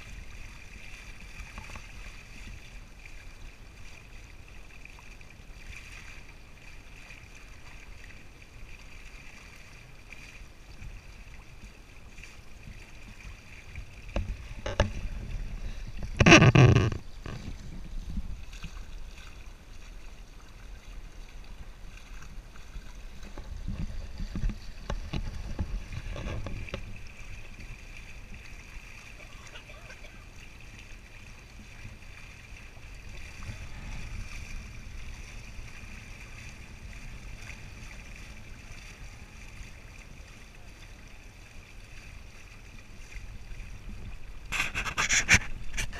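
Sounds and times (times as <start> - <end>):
water rushing along kayak hull: 0.0 - 45.9.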